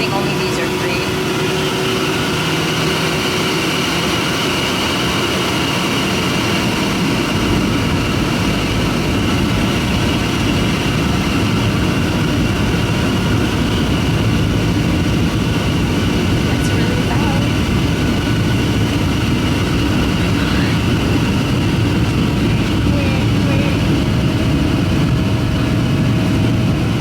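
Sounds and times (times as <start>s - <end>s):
airliner engine rumble in cabin: 0.0s - 27.0s.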